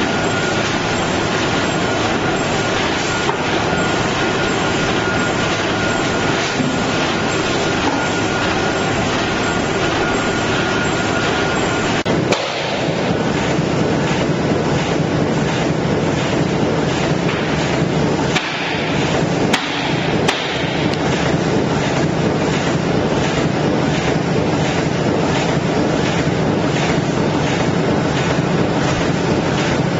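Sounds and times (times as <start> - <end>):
production machinery running: 0.0 - 29.9.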